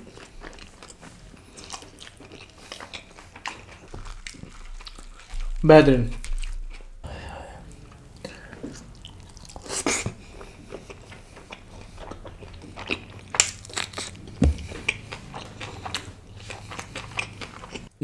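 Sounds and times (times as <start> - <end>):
close chewing with mouth sounds: 0.0 - 18.0
crunchy chewing clicks: 0.1 - 6.9, 8.8 - 17.9.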